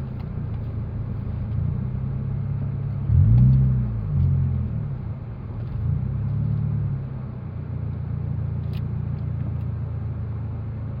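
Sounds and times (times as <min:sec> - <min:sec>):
car engine idle rumble: 0:00.0 - 0:11.0.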